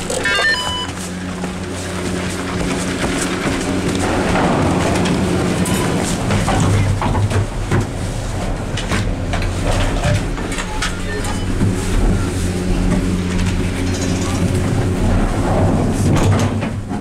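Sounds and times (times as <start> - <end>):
gondola machinery hum: 0.0 - 17.0.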